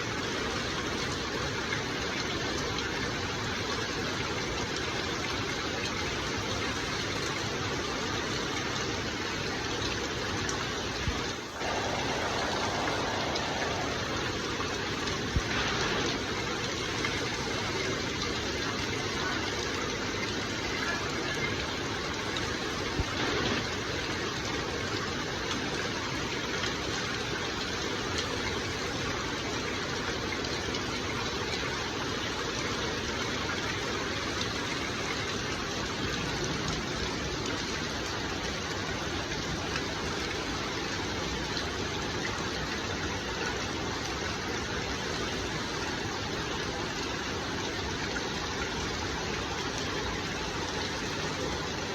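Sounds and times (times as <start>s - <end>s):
water spraying and falling: 0.0s - 51.9s.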